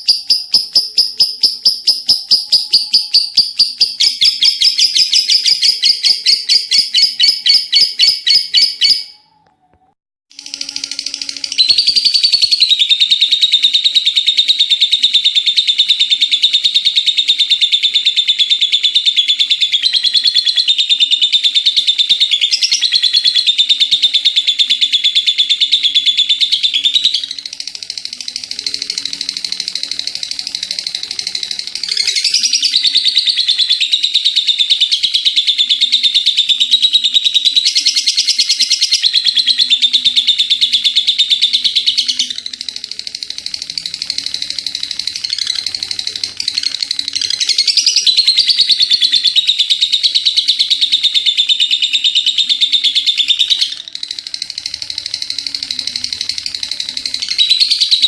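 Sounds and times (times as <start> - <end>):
lovebird chattering trill: 0.0 - 9.1, 10.4 - 58.0.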